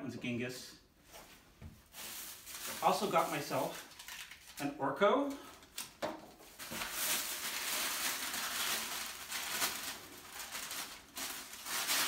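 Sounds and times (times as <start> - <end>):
plastic bag and paper rustling: 1.8 - 12.0.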